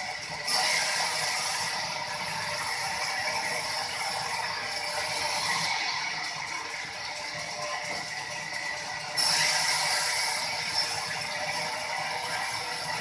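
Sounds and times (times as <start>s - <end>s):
sawmill machinery rattling: 0.0s - 13.0s.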